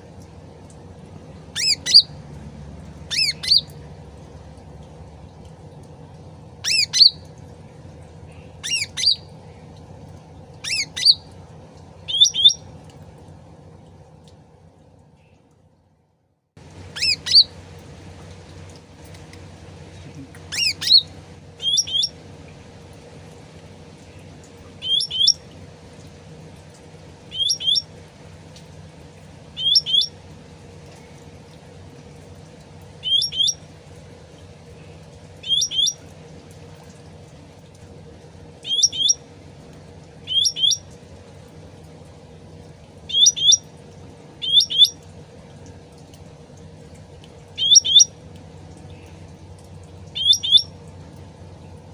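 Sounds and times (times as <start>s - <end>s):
water trickling: 0.0s - 51.9s.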